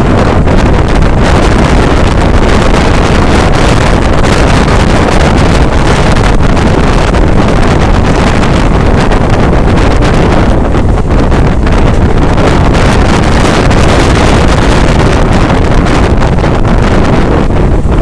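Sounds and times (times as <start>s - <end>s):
train running rumble: 0.0s - 18.0s
wind buffeting microphone: 0.0s - 18.0s.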